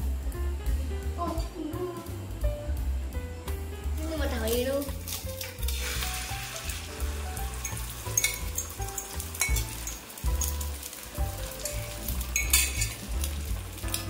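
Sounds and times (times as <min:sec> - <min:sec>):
egg sizzling in a pan: 0:00.0 - 0:14.0.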